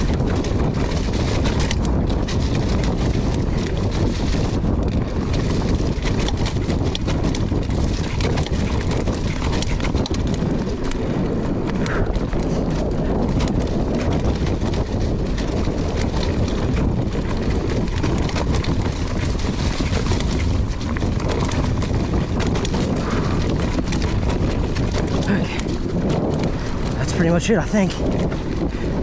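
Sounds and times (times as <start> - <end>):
bike rattling over rocks: 0.0 - 29.0
wind buffeting microphone: 0.0 - 29.0.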